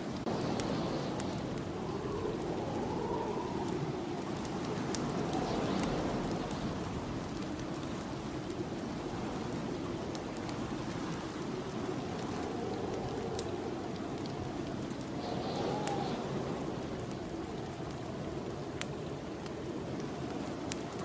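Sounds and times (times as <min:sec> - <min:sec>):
snowstorm wind blowing: 0:00.0 - 0:21.0
wood fire crackling and popping: 0:00.0 - 0:21.0.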